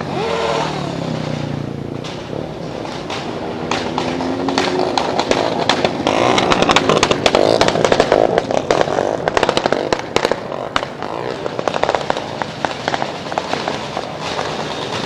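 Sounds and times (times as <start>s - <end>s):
exhaust pops crackling: 0.0s - 15.0s
small motorcycle engine revving: 0.0s - 15.0s.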